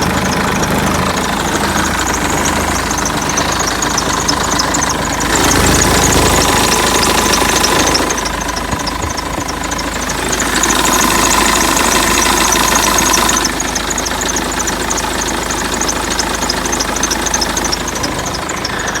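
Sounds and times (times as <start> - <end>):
diesel engine idling: 0.0 - 19.0
high rhythmic chirping: 0.0 - 19.0
steady whistling tone: 0.0 - 19.0.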